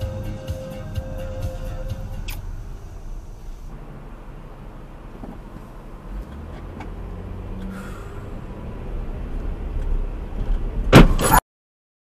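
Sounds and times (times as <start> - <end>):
car engine and road rumble: 0.0 - 11.4.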